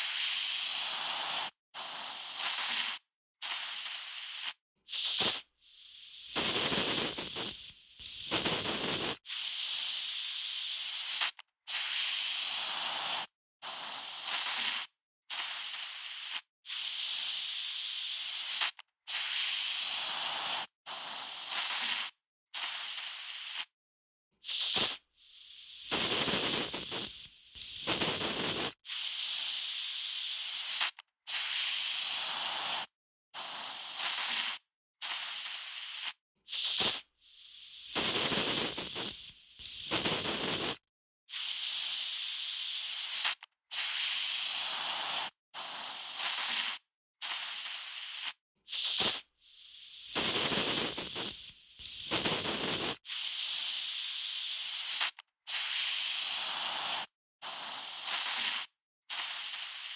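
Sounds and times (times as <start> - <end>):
aerosol spray can hissing: 0.0 - 23.7, 24.4 - 59.9.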